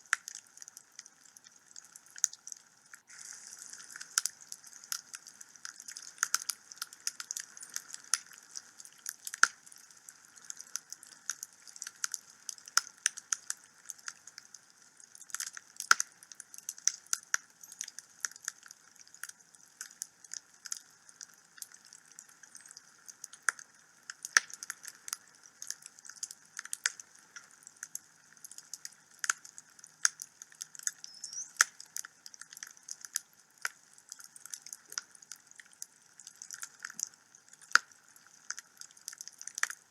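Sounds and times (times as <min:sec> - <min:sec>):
burning wood crackling and popping: 0:00.0 - 0:39.9
faint steady hiss: 0:00.0 - 0:39.9.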